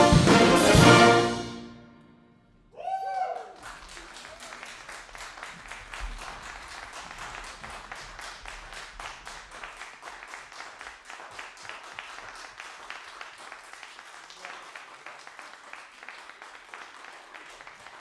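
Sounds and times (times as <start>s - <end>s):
audience applauding: 2.8s - 18.0s.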